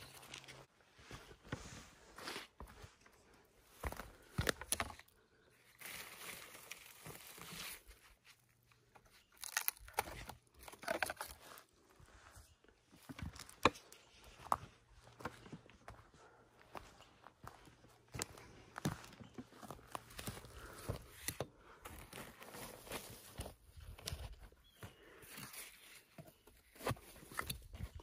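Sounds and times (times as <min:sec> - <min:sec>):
crunching in dry forest litter: 0:00.0 - 0:28.0.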